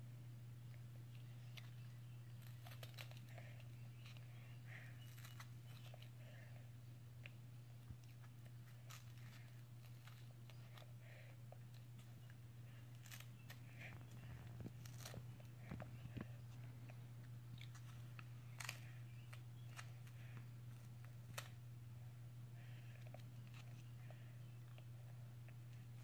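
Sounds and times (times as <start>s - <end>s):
steady low hum: 0.0s - 26.0s
baby chewing crunchy wafer: 0.7s - 21.6s, 22.6s - 26.0s.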